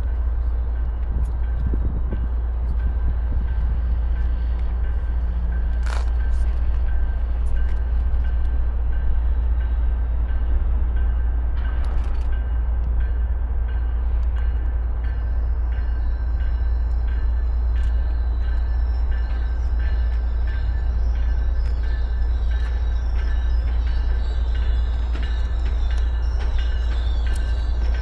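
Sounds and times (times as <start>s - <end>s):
train clicks and knocks: 0.0s - 28.0s
train rumbling: 0.0s - 28.0s.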